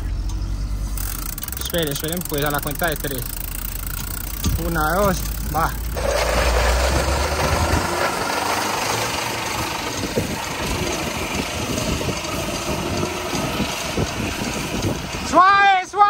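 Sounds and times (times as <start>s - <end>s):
car engine pulling: 0.0s - 16.0s
bicycle tyres skidding on asphalt: 1.0s - 15.8s.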